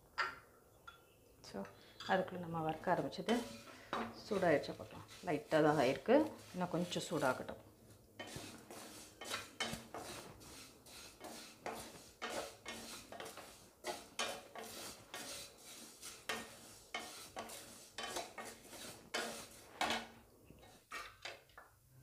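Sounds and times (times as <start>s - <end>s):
wooden spatula scraping pan: 2.8s - 7.6s, 8.2s - 21.4s.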